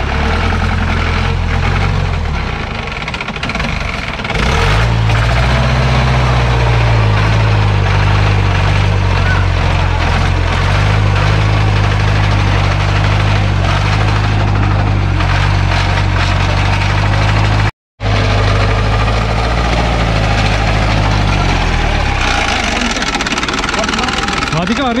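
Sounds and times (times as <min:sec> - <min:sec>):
jeep engine running hard: 0:00.0 - 0:25.0.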